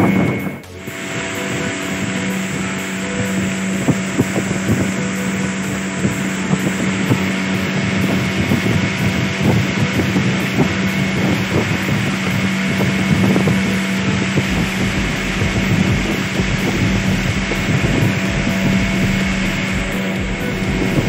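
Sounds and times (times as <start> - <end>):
boat motor humming: 0.0 - 21.0
wind rushing: 0.0 - 21.0.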